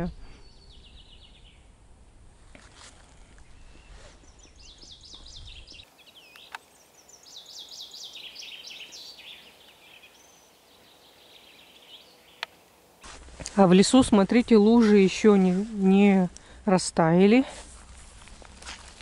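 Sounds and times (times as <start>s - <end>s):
songbirds singing faintly: 0.0s - 17.5s.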